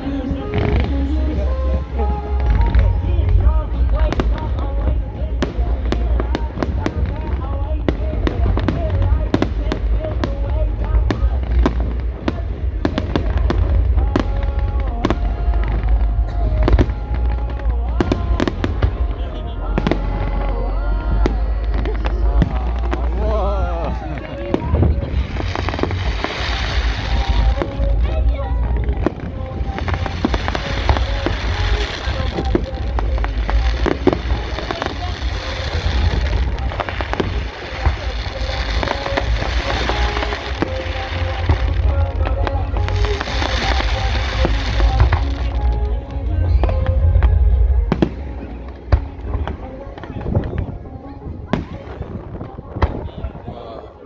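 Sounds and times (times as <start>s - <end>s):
low rumble: 0.0s - 53.4s
fireworks bangs and crackles: 0.0s - 53.9s.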